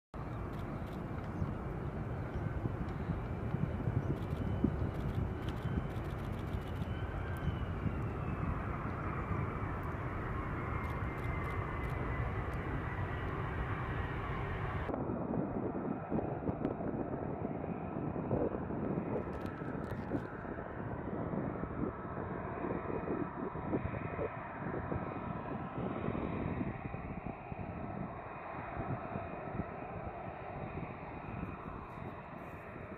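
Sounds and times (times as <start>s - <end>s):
jet engine high whine: 0.2s - 32.9s
rough jet engine noise taxiing: 0.2s - 32.9s.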